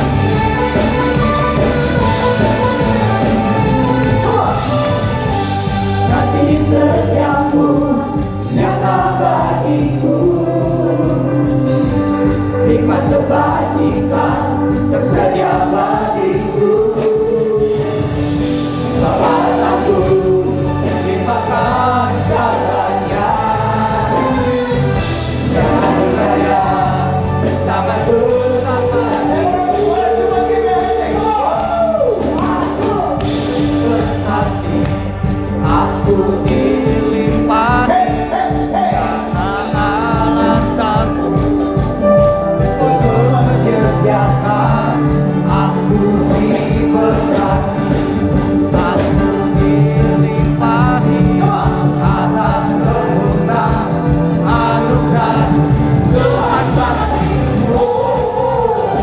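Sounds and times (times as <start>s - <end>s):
band with low bass notes: 0.0s - 59.0s
group singing gospel song: 0.0s - 59.0s.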